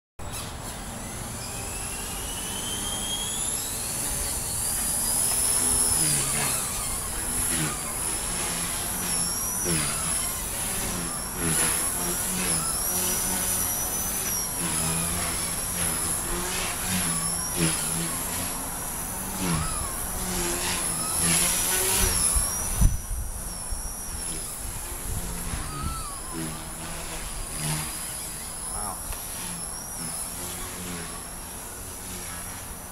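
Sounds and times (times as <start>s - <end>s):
rc helicopter rotor whine: 0.2s - 32.9s.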